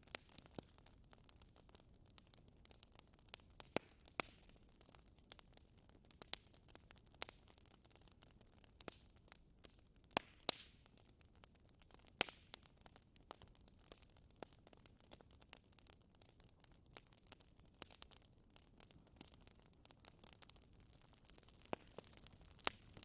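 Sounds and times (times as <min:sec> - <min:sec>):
fire crackling in fireplace: 0:00.0 - 0:23.0.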